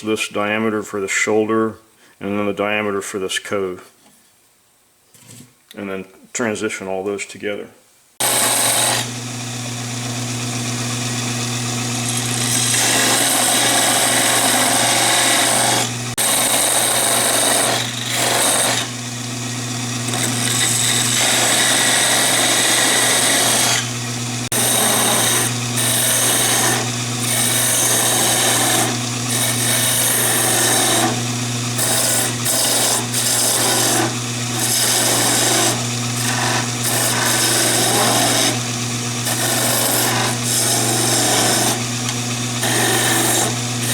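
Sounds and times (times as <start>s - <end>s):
lathe motor hum: 8.2s - 43.9s
tool cutting spinning wood: 8.2s - 43.9s.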